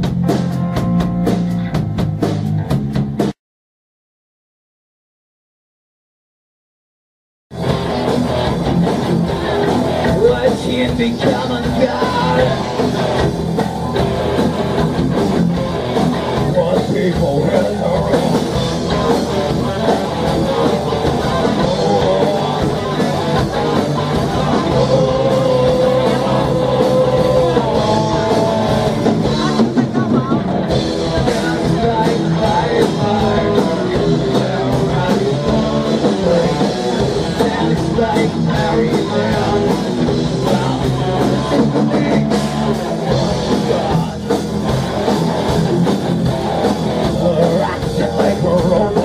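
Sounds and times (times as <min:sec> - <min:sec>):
drum kit: 0:00.0 - 0:03.4, 0:07.5 - 0:49.0
electric guitar: 0:07.5 - 0:49.0.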